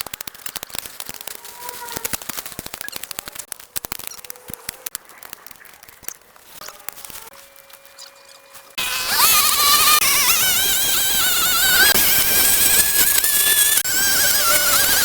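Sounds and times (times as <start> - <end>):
irregular crackling snaps: 0.0 - 15.0.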